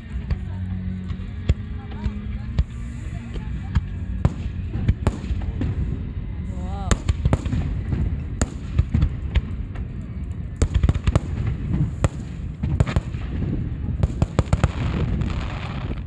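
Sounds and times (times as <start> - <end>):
low rumble: 0.0 - 16.0
fireworks bangs: 1.9 - 16.0.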